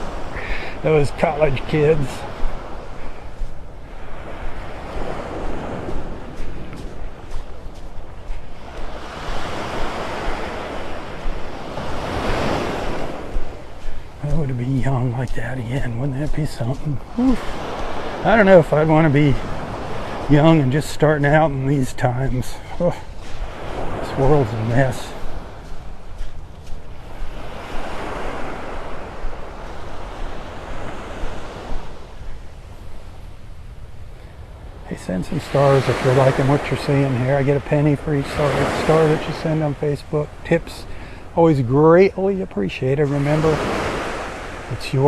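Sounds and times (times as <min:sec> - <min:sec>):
surf washing up beach: 0:00.0 - 0:45.0
wind rumbling on microphone: 0:00.0 - 0:45.0.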